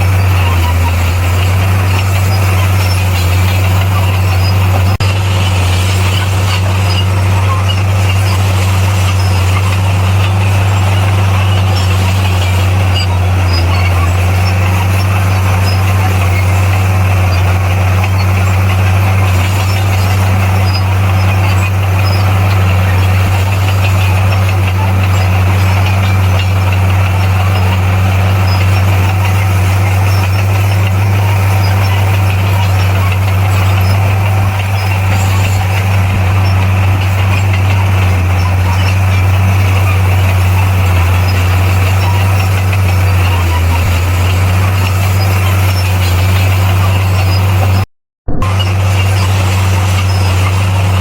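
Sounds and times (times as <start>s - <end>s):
bulldozer diesel engine droning: 0.0s - 51.0s.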